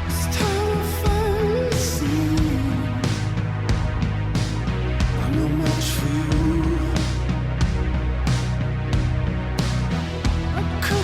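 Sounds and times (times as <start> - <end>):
song with bass and beat: 0.0 - 11.0.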